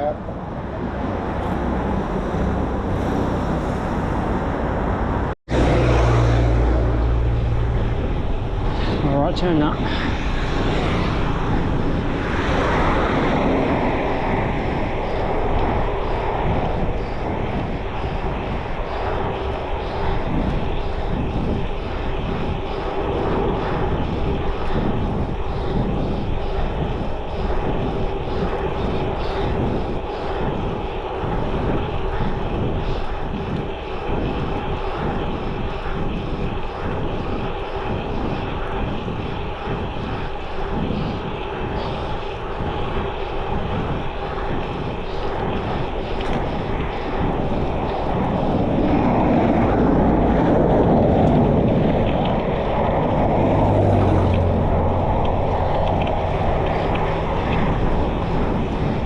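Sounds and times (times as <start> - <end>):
bicycle road noise: 0.0 - 59.0
wind rumble on microphone: 0.0 - 59.0.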